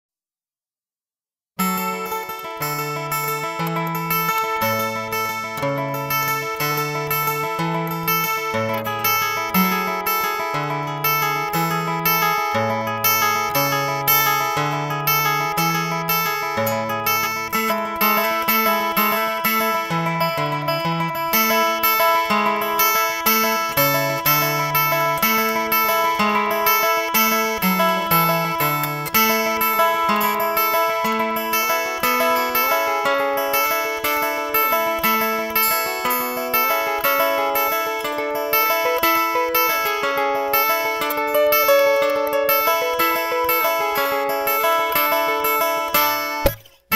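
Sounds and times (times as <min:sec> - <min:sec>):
acoustic guitar playing: 0:01.6 - 0:46.9.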